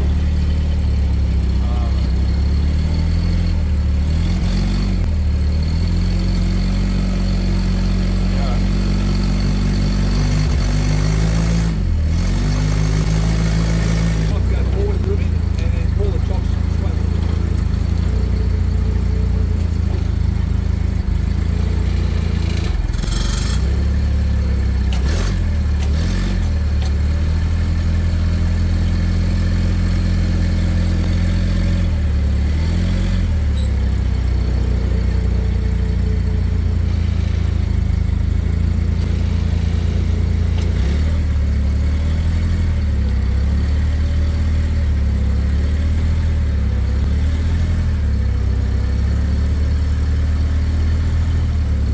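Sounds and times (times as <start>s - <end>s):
truck engine running: 0.0s - 51.9s.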